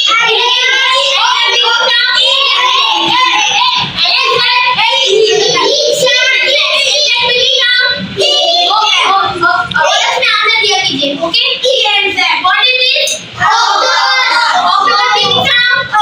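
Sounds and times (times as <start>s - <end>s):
children singing in unison: 0.0s - 10.2s, 13.4s - 16.0s.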